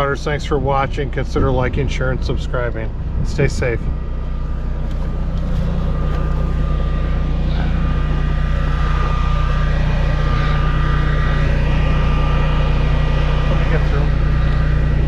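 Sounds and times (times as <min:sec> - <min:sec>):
faint high whine: 0:00.0 - 0:15.0
portable generator running: 0:00.0 - 0:15.0.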